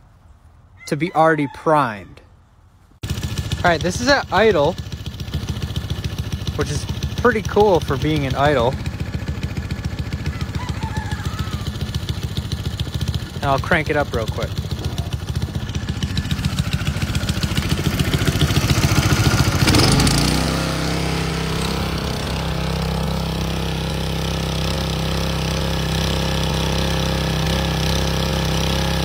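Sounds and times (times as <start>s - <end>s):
small gasoline engine running pump: 3.0s - 29.0s.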